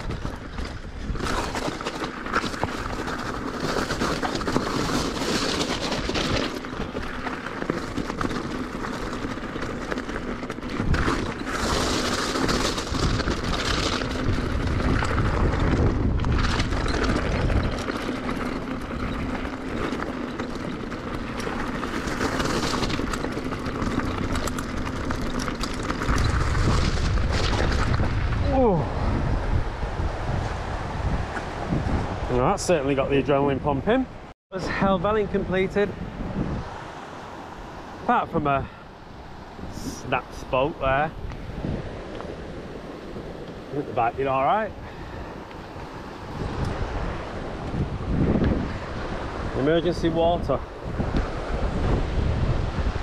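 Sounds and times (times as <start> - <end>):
bike tyres crunching on rock: 0.0 - 33.5, 39.6 - 53.0
wind buffeting microphone: 0.0 - 53.0.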